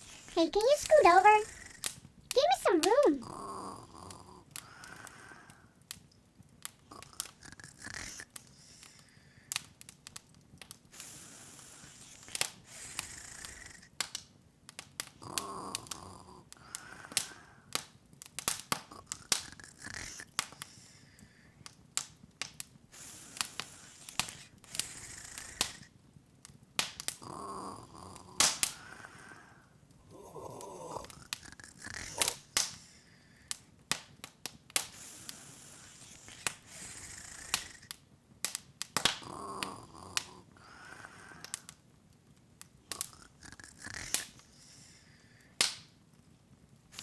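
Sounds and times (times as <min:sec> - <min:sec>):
wood fire crackling and popping: 0:00.0 - 0:29.3, 0:29.9 - 0:47.0.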